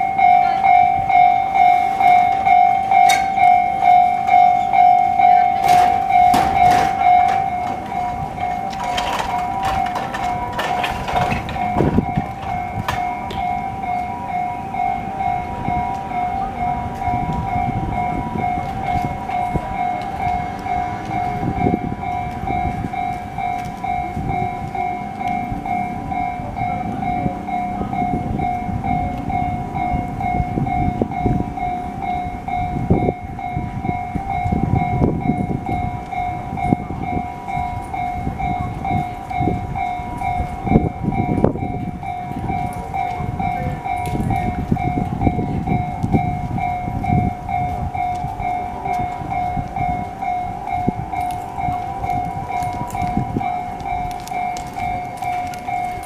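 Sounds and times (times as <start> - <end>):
level crossing electronic bell: 0.0 - 56.0
train rumble and wheel clatter: 0.0 - 56.0.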